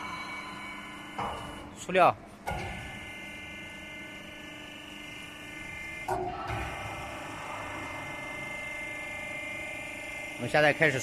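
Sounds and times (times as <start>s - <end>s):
hydraulic motor whine: 0.0s - 1.8s, 2.5s - 11.0s.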